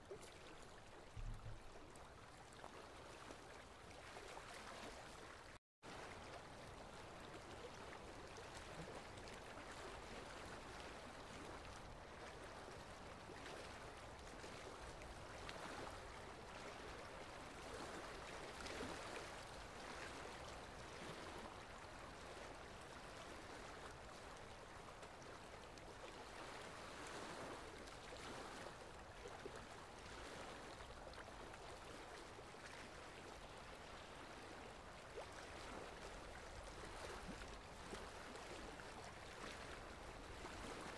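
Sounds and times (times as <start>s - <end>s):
small waves lapping: 0.0s - 40.9s.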